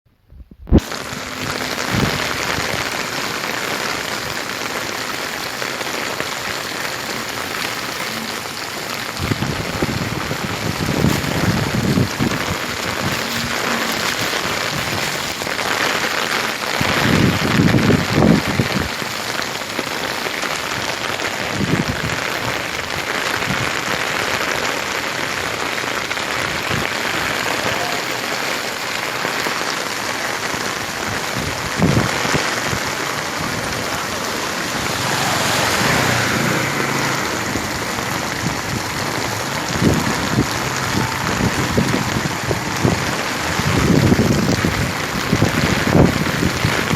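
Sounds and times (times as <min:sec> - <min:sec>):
heavy rain falling: 0:00.7 - 0:46.9.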